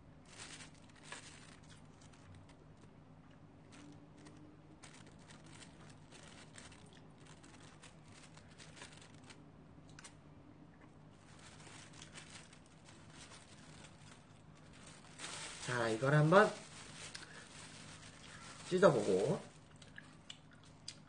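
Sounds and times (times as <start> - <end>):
plastic wrapping rustling: 0.0 - 10.2, 11.1 - 20.3
low steady hum: 0.0 - 21.0.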